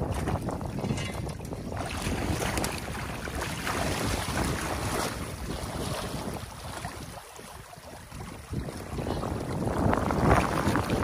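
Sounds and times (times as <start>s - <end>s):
wading boots churning water: 0.0s - 11.0s
water rushing and splashing: 0.0s - 11.0s.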